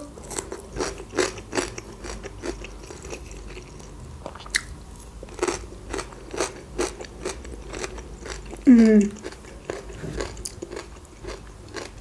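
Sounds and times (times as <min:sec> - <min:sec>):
chewing crunchy cucumber: 0:00.2 - 0:12.0.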